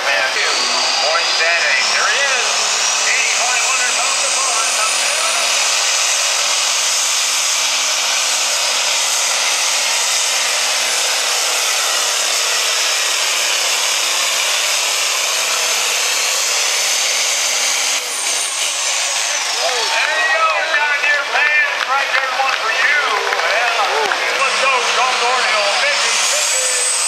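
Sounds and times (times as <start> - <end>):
tractor diesel engine at full load: 0.0 - 27.0.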